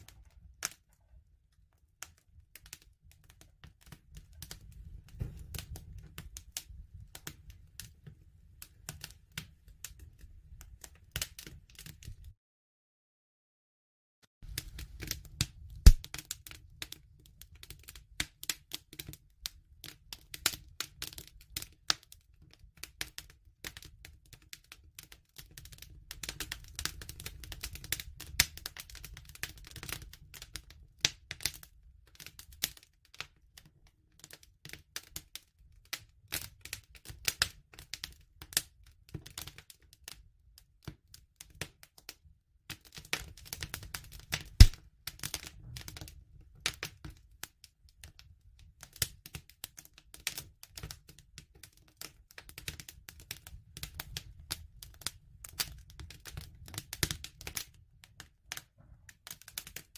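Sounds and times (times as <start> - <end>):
wood fire crackling: 0.0 - 12.3, 14.4 - 42.1, 42.7 - 59.9.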